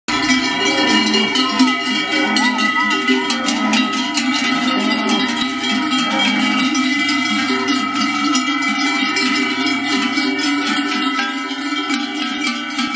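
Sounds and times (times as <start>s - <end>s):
cowbells clanging: 0.1s - 12.9s.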